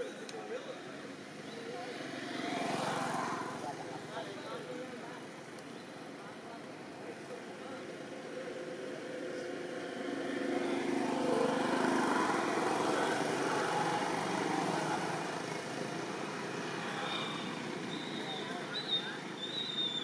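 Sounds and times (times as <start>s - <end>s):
passing motor vehicle engine: 1.0s - 6.2s, 7.1s - 20.0s.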